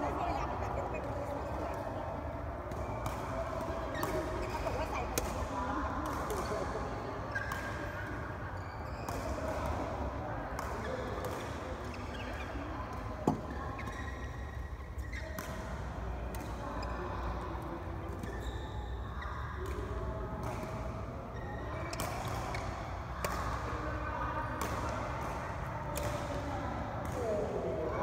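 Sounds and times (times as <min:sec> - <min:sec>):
rackets striking shuttlecock: 0:01.0 - 0:18.5, 0:19.5 - 0:21.1, 0:21.9 - 0:27.7.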